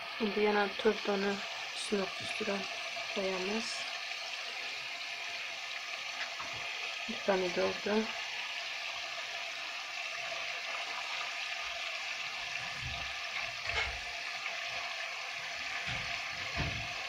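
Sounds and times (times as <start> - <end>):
hot oil sizzling in a pan: 0.0 - 17.0.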